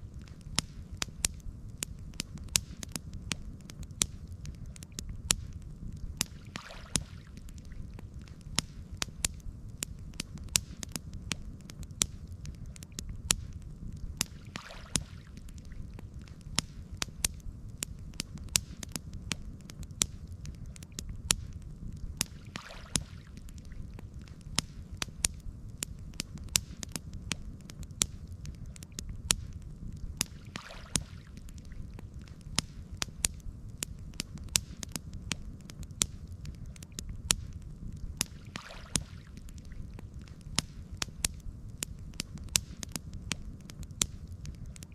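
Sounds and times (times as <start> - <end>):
campfire crackling and popping: 0.0 - 44.9
low fire rumble: 0.0 - 44.9.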